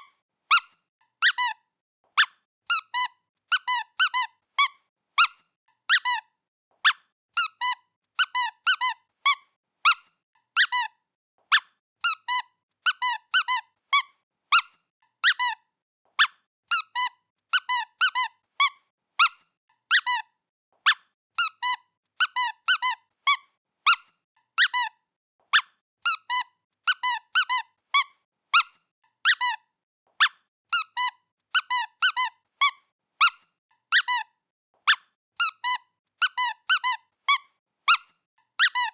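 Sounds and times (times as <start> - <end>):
squeaky toy squeaking: 0.0 - 1.6, 2.2 - 38.9.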